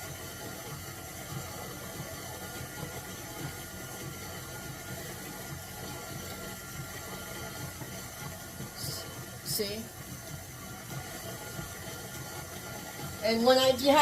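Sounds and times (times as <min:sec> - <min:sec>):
stand mixer running: 0:00.0 - 0:14.0.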